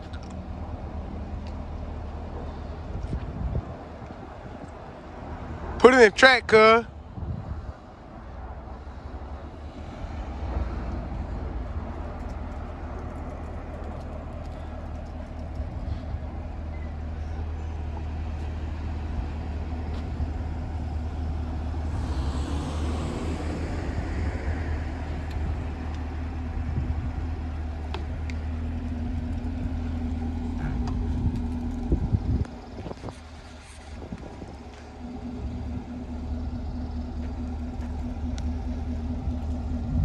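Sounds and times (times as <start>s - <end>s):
car engine low rumble: 0.0s - 40.0s.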